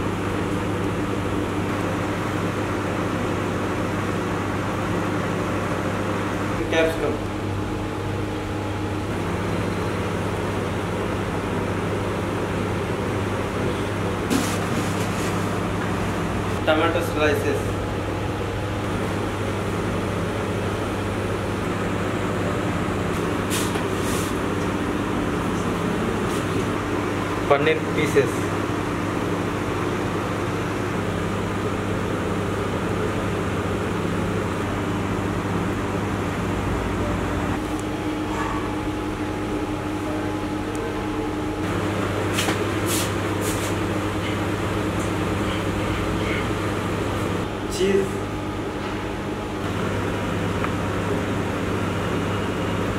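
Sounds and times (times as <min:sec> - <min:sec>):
kitchen machinery humming: 0:00.0 - 0:52.9.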